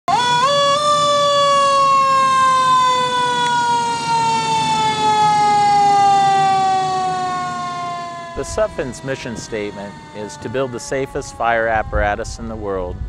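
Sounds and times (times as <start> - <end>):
fire truck siren wailing: 0.1 - 13.0.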